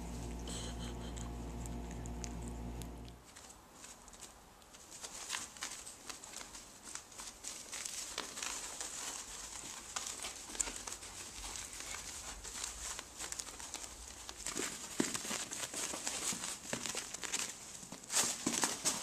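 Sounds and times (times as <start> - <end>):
puppy pads crinkling under paws: 3.1 - 19.0.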